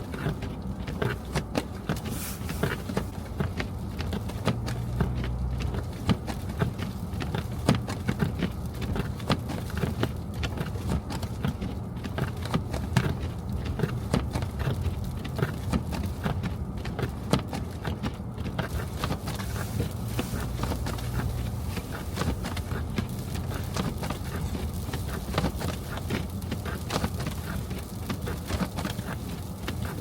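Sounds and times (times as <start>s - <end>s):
car road rumble: 0.0s - 30.0s.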